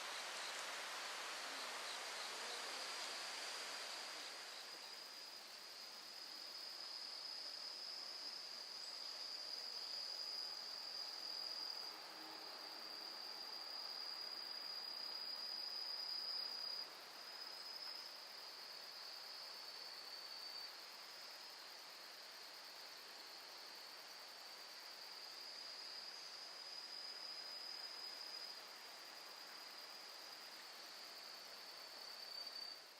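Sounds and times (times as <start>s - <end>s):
faint outdoor hiss: 0.0s - 32.9s
insects trilling: 3.4s - 32.9s.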